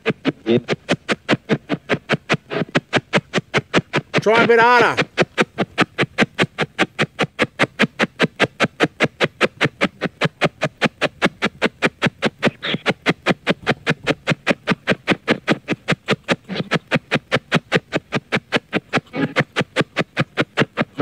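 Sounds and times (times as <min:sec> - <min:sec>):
chopped radio fragments and static: 0:00.0 - 0:21.0.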